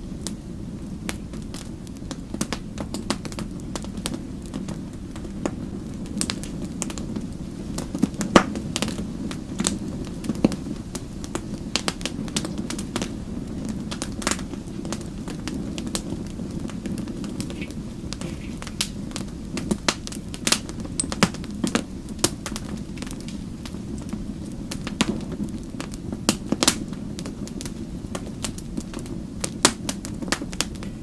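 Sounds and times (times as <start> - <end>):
flames rushing: 0.0 - 31.0
wood fire crackling: 0.0 - 31.0.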